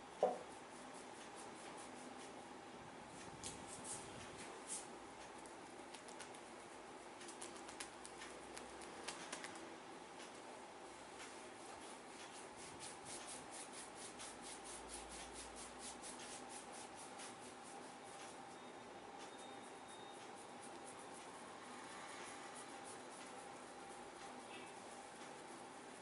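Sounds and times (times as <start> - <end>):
hands rubbing hair and scalp: 0.2 - 2.4, 3.2 - 6.6, 7.2 - 9.6, 11.2 - 18.5, 19.3 - 21.5, 22.2 - 26.0.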